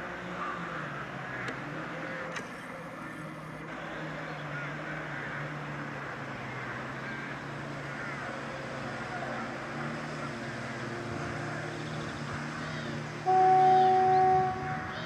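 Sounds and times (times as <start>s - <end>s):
diesel locomotive engine idling: 0.1s - 15.0s.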